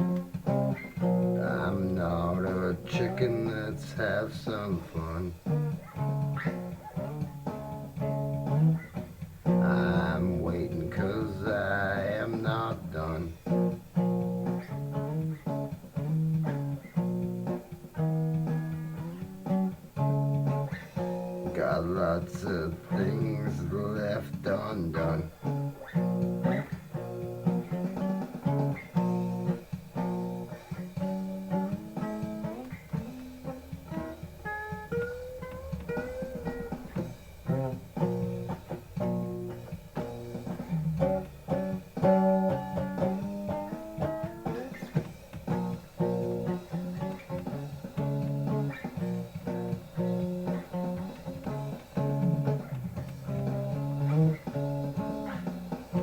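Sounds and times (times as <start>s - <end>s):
plucked guitar music: 0.0s - 56.0s.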